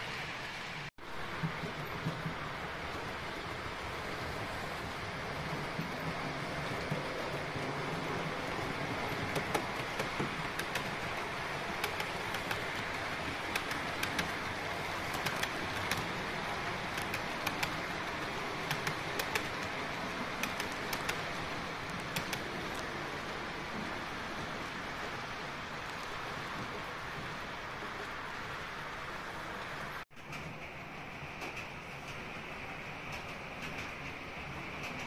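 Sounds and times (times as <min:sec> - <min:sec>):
model train rushing hum: 0:00.0 - 0:35.0
wheels clicking over rail joints: 0:01.0 - 0:28.8, 0:29.5 - 0:35.0.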